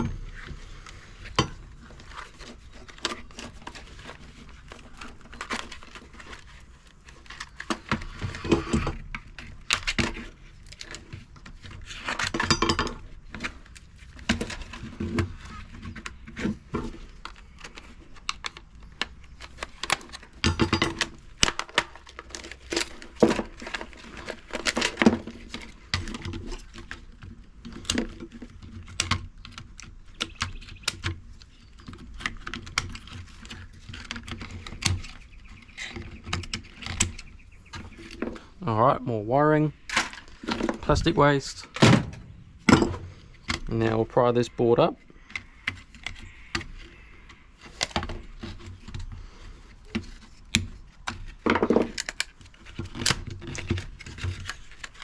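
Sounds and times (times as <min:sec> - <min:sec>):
clatter of tools and parts: 0:00.0 - 0:38.6, 0:47.6 - 0:55.0.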